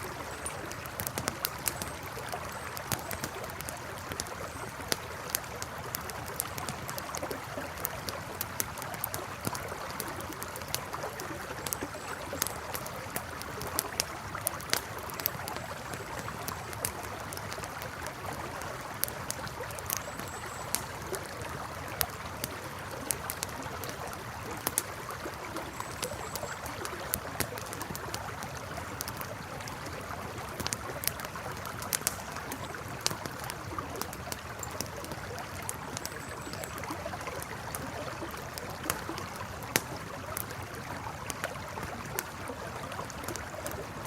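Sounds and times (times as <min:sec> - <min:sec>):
campfire crackling and popping: 0:00.0 - 0:44.0
river flowing: 0:00.0 - 0:44.0.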